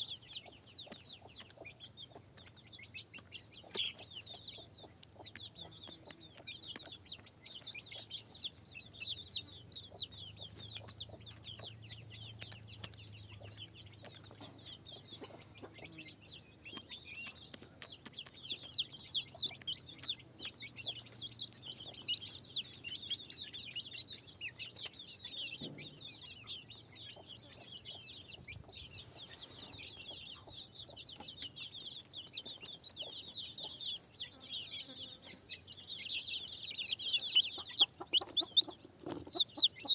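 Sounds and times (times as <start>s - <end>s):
chickens calling: 0.0s - 39.9s.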